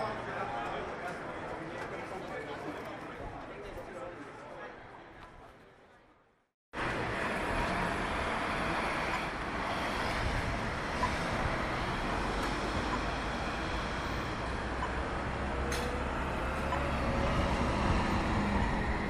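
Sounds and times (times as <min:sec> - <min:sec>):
traffic noise with low rumble: 0:00.0 - 0:19.0.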